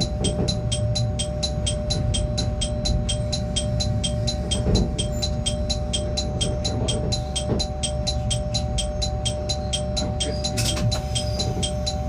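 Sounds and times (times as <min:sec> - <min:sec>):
rapid electronic ringing: 0:00.0 - 0:12.0
steady hum: 0:00.0 - 0:12.0
train rumbling: 0:00.0 - 0:12.0.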